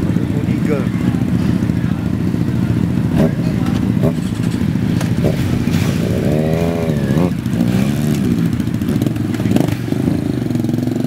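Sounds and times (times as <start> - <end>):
motorcycle engine revving: 0.0 - 11.0
motorcycle engines idling: 0.0 - 11.0.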